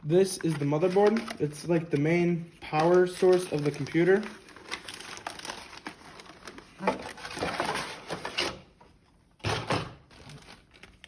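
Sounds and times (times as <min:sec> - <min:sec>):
packaging rustling and crinkling: 0:00.3 - 0:08.6, 0:10.0 - 0:11.0.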